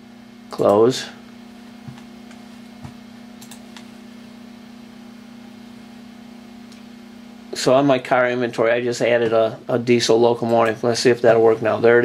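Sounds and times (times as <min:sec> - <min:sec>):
low hum of room equipment: 0:00.0 - 0:12.0.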